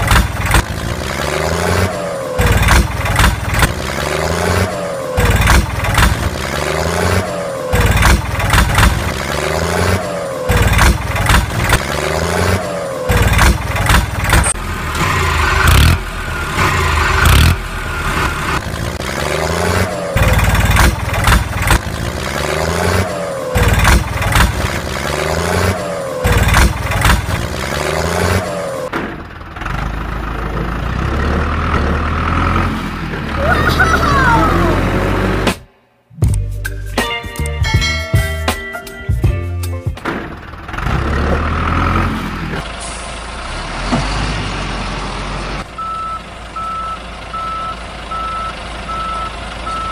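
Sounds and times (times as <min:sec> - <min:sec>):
looped tractor engine sound: 0:00.0 - 0:49.9.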